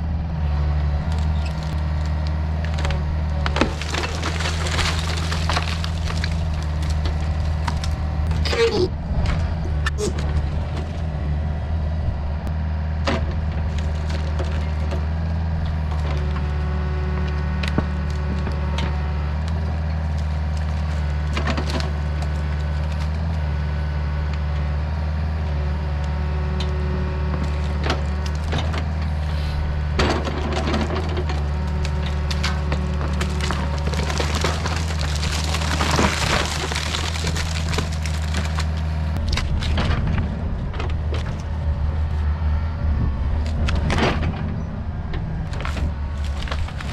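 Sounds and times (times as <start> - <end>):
diesel engine droning: 0.0 - 46.9
wood cracking and splintering: 0.5 - 24.5, 26.0 - 46.9.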